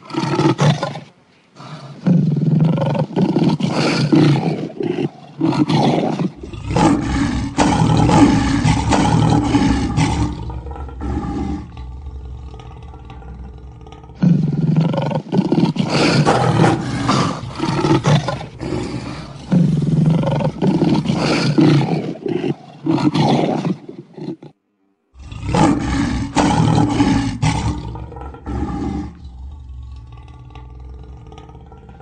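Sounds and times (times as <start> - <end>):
lion roaring: 0.0 - 24.6, 25.2 - 32.0
lion grunting: 1.6 - 24.6, 25.2 - 32.0.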